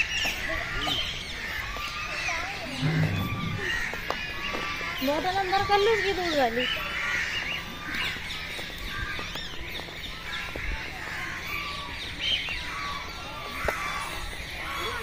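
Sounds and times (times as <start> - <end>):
birds calling and chirping: 0.0 - 15.0.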